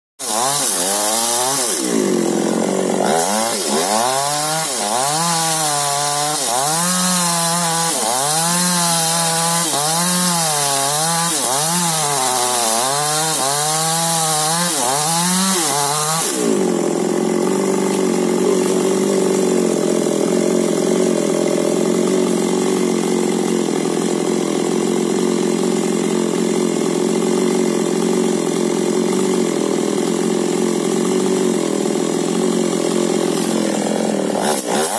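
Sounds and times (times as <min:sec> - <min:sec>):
chainsaw engine revving: 0:00.2 - 0:34.9.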